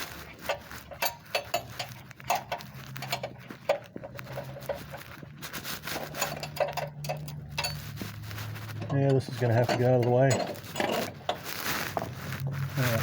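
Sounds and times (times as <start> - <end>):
hand tools clicking and rattling: 0.0 - 13.0.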